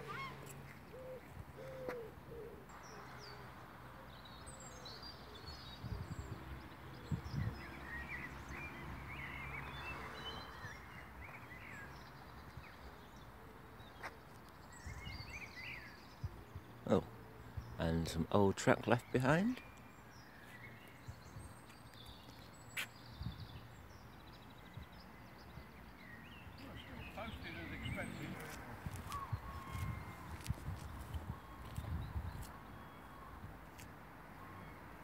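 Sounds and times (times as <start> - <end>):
outdoor background noise: 0.0 - 35.0
small birds chirping: 0.0 - 35.0.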